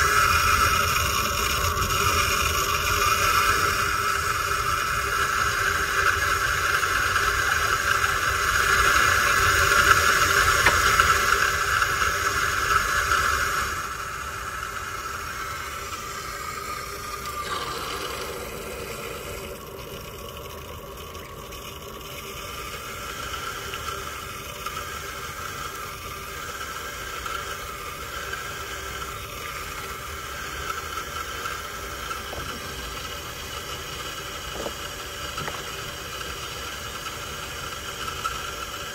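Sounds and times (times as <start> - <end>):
falling whine: 0.0 - 38.9
water rushing from drain line: 0.0 - 38.9.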